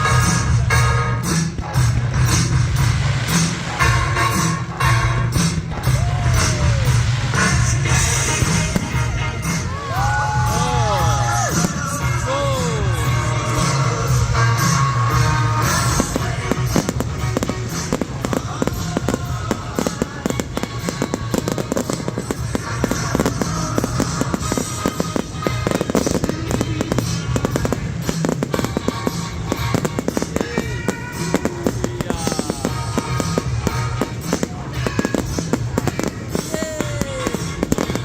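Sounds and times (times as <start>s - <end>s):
fireworks crackling and banging: 0.0s - 38.0s
loud music: 0.0s - 38.0s.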